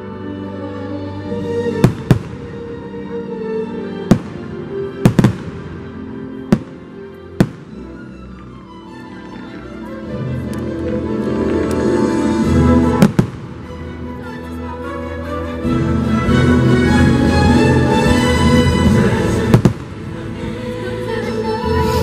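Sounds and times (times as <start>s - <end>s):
holiday music: 0.0s - 22.0s.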